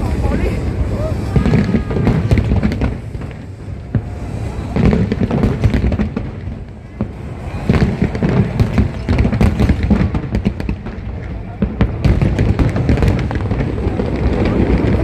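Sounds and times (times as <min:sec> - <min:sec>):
fireworks booming: 0:00.0 - 0:15.0
sharp fireworks cracks: 0:00.0 - 0:15.0.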